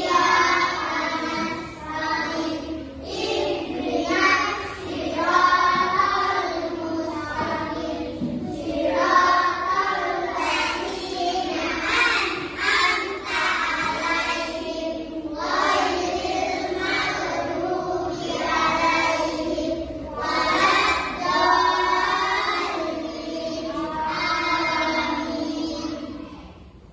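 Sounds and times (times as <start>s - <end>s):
children singing: 0.0s - 26.6s.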